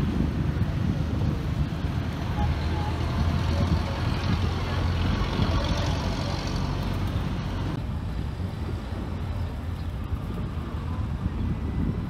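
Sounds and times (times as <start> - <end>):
street traffic rumble: 0.0 - 12.0
wind buffeting microphone: 0.0 - 12.0.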